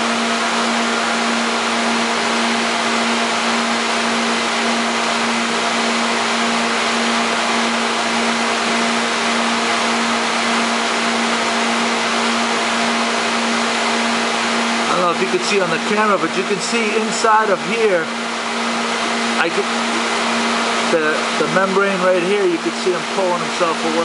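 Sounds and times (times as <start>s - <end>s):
pumps humming and rushing: 0.0s - 24.0s.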